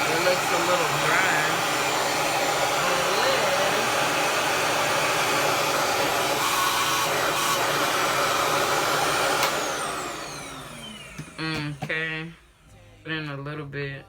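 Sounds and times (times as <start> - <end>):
hair dryer fan rushing: 0.0 - 12.6.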